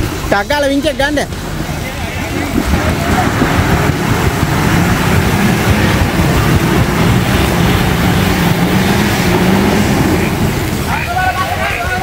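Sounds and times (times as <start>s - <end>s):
suv engine running hard: 0.0s - 12.0s.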